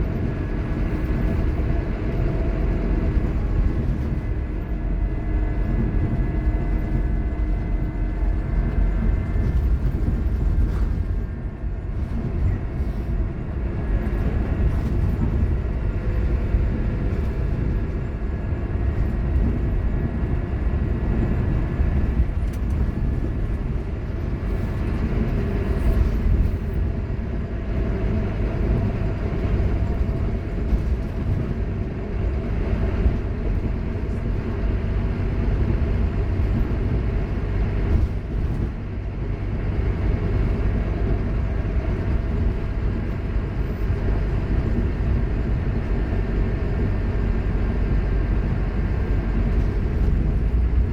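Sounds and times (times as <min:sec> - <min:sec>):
bus engine rumbling: 0:00.0 - 0:50.9.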